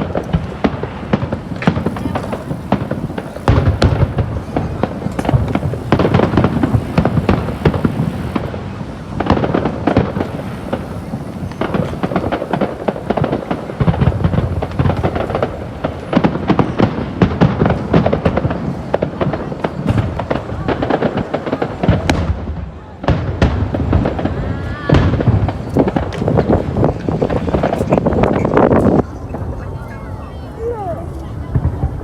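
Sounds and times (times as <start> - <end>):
deep fireworks booms: 0.0 - 32.0
fireworks bangs and crackles: 0.0 - 32.0.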